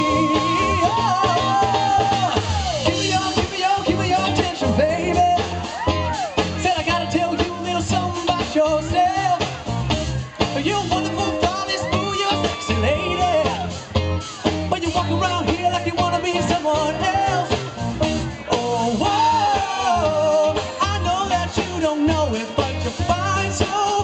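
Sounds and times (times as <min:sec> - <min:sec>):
lead vocalist singing: 0:00.0 - 0:09.7, 0:10.4 - 0:24.0
live band playing pop-funk: 0:00.0 - 0:24.0.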